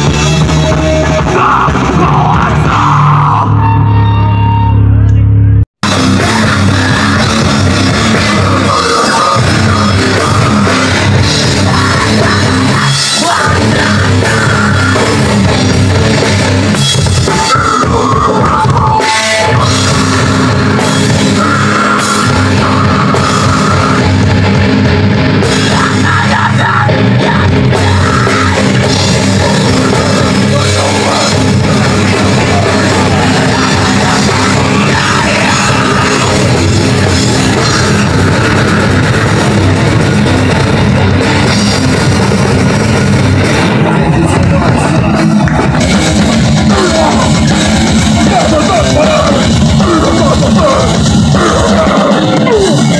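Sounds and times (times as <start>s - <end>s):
punk band playing live: 0.0s - 52.9s.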